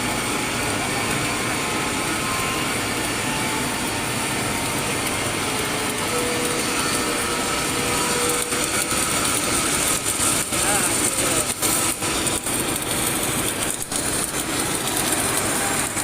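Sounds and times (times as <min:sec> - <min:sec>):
steady machine noise: 0:00.0 - 0:16.0.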